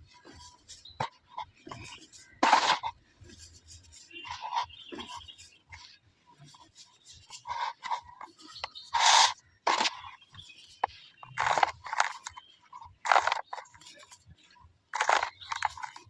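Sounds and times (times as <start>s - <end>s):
dry cement balls crunching: 0.0s - 5.4s, 7.3s - 13.9s, 14.9s - 16.0s.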